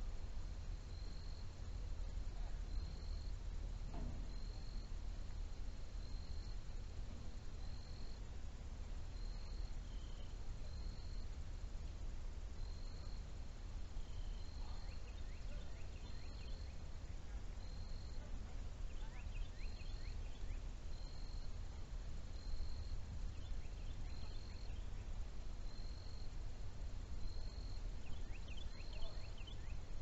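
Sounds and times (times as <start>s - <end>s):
faint wildlife chirps: 0.0s - 30.0s.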